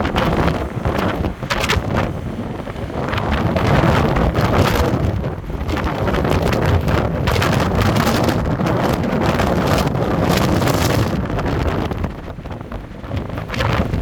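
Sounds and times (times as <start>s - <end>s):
storm wind gusting on microphone: 0.0s - 14.0s.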